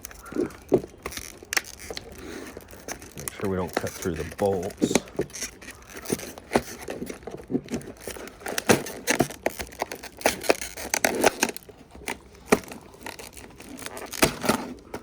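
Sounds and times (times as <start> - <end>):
tool scraping: 0.0 - 15.0.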